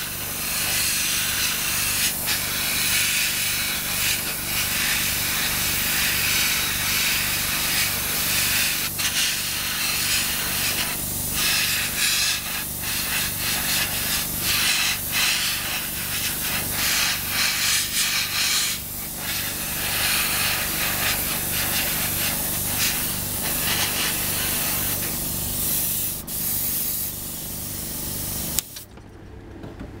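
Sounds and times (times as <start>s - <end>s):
airbrush hissing: 0.0s - 28.8s.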